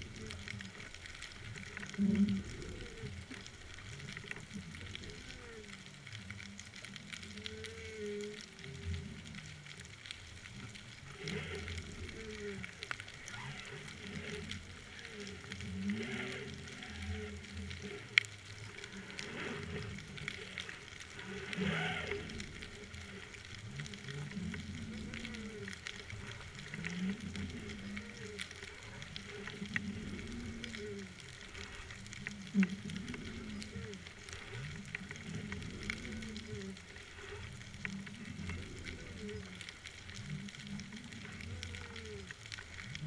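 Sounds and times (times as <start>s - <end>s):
underwater crackle: 0.0s - 43.0s.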